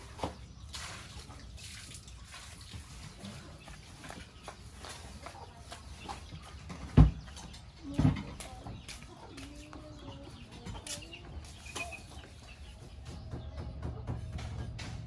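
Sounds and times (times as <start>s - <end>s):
chicken clucking: 2.9s - 15.0s.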